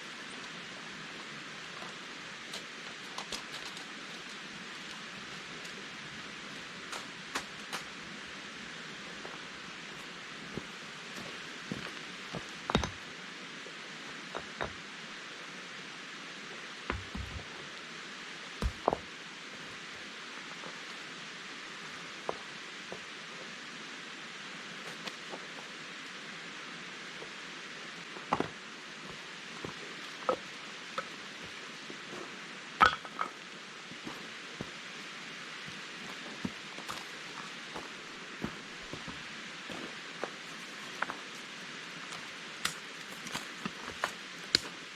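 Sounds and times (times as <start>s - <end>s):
mountain stream rushing: 0.0s - 44.9s.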